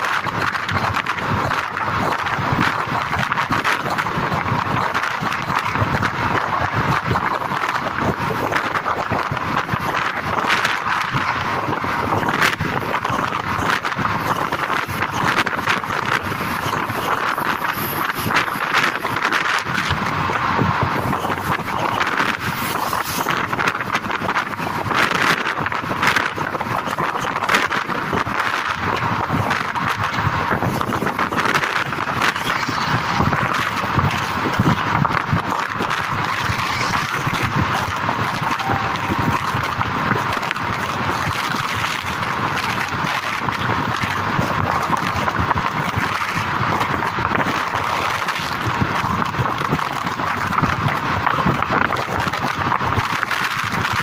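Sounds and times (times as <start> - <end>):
bus road noise: 0.0 - 54.0
wind on microphone: 0.0 - 54.0.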